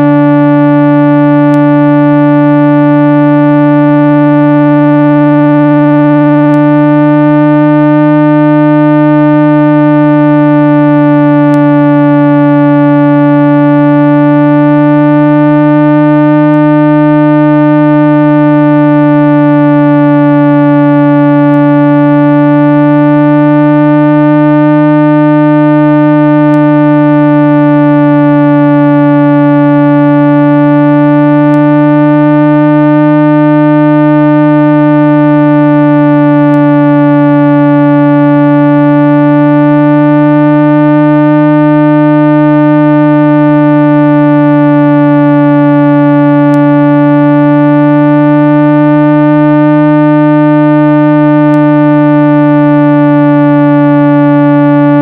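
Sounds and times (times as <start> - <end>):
synthesized low tone: 0.0 - 55.0.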